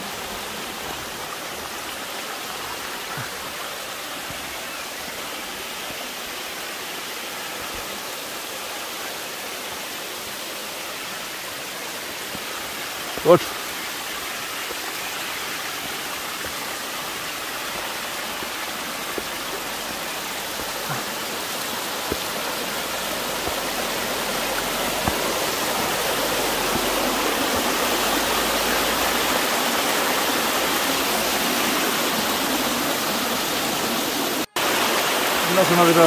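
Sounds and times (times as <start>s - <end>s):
waterfall rushing and splashing: 0.0s - 36.0s.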